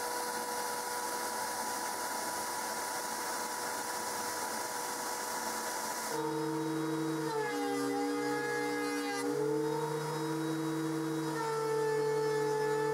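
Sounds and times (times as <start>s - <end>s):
shop vacuum running: 0.0s - 12.9s.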